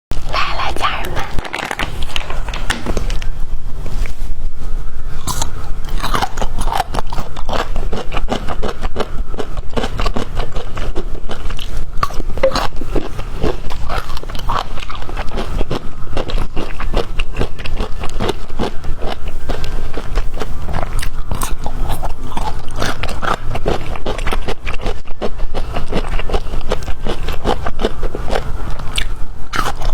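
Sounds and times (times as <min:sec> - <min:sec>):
crunching and chewing bamboo: 0:05.0 - 0:29.9.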